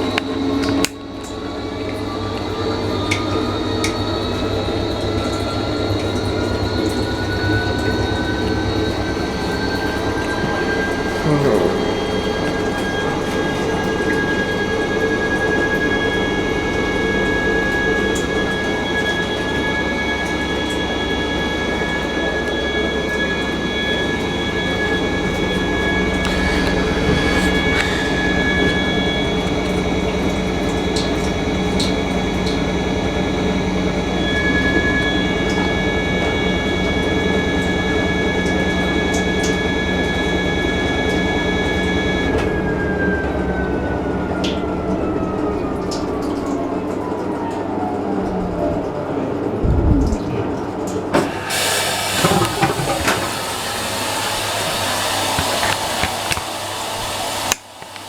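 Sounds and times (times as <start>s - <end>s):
washing machine motor whine: 0.0s - 58.0s.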